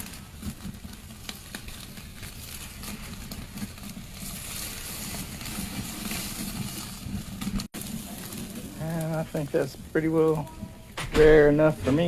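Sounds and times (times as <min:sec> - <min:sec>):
coals crackling and popping: 0:00.0 - 0:12.0
steak sizzling on embers: 0:00.0 - 0:12.0.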